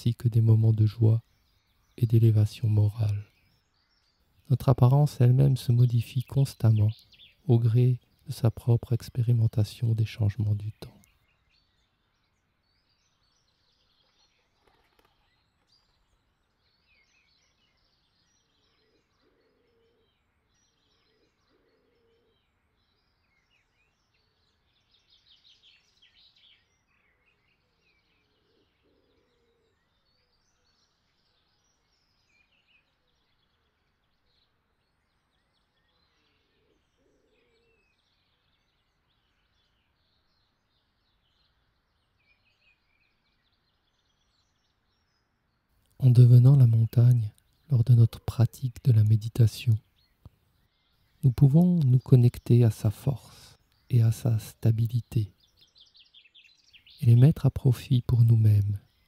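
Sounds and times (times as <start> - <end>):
faint birdsong chirps: 0.0 - 59.0.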